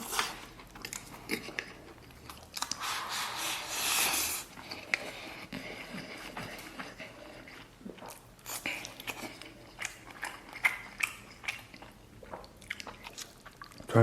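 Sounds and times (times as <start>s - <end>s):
man chewing food: 0.0s - 13.9s.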